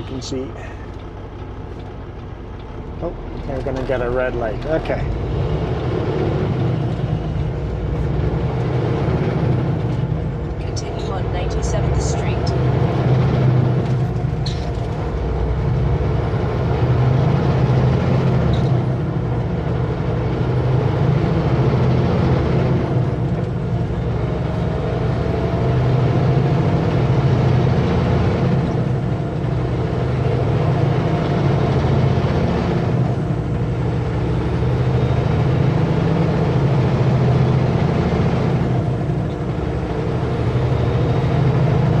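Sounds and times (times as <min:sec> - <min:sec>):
road noise: 0:00.0 - 0:42.0
truck diesel engine running: 0:00.0 - 0:42.0.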